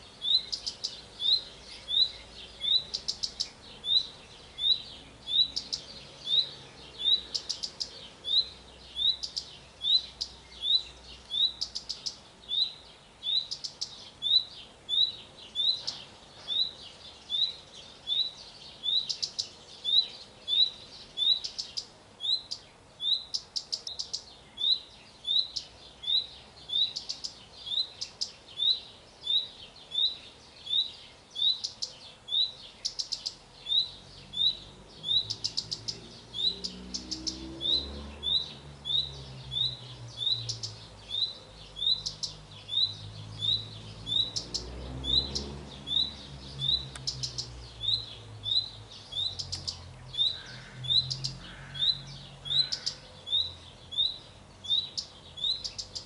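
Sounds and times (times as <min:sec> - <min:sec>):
bird tic notes: 0:00.0 - 0:56.0.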